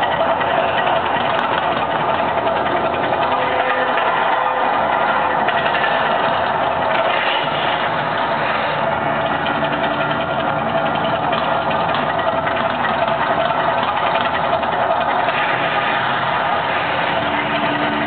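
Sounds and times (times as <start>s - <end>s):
water jets and fire roaring: 0.0s - 18.0s.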